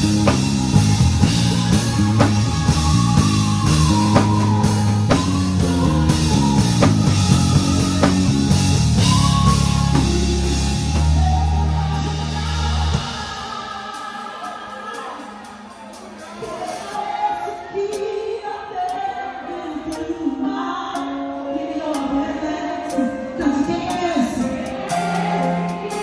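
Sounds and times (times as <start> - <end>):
worship band playing: 0.0 - 26.0.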